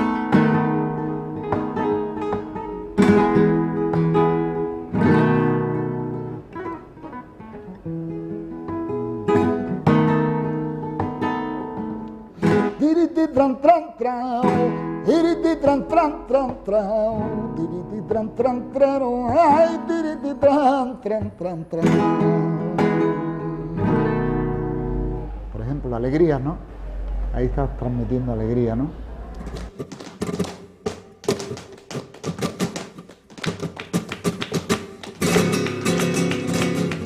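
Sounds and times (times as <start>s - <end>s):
flamenco guitar strumming chords: 0.0s - 25.7s, 29.4s - 37.0s.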